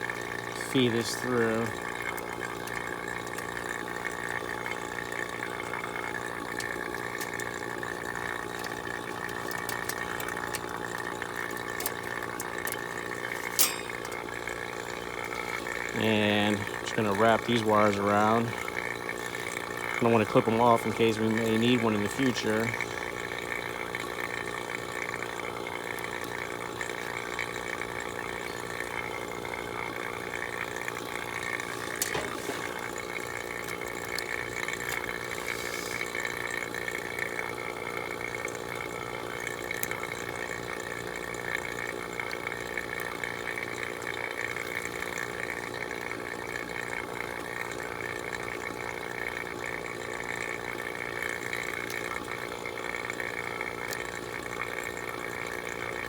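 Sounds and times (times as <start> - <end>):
vacuum pump droning: 0.0 - 56.0.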